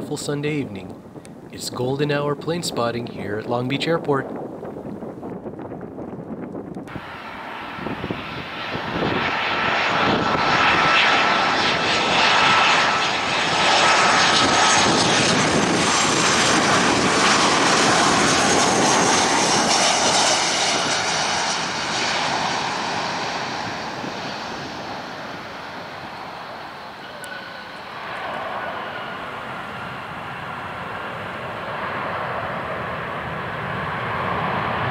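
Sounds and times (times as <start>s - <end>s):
jet plane passing close by: 0.0s - 34.9s.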